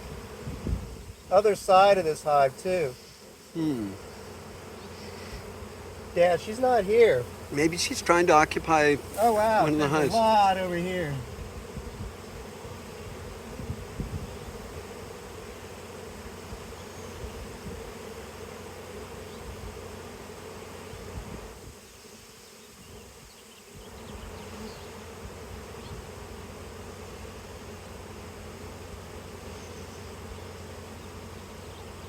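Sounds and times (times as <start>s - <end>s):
bee swarm buzzing: 0.0s - 32.0s.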